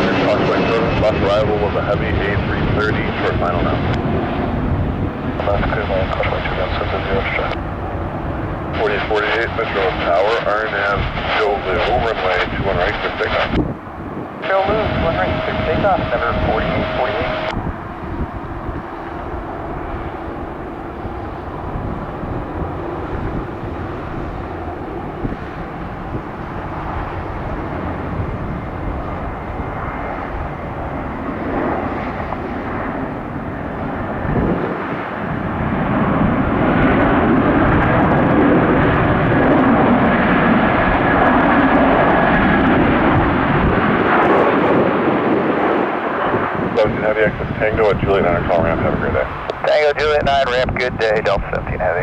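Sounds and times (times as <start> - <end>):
jet engines of airliner: 0.0 - 52.0.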